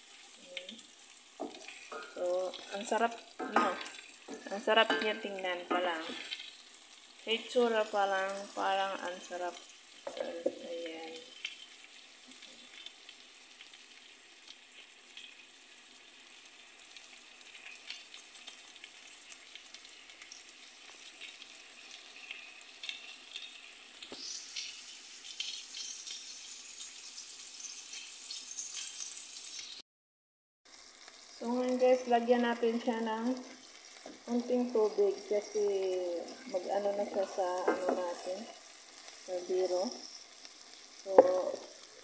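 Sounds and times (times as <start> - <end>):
food sizzling in a frying pan: 0.0 - 29.8, 30.7 - 42.0.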